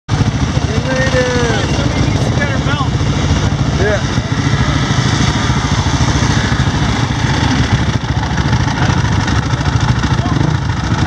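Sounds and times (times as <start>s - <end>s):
dirt bike engine idling: 0.1s - 11.0s.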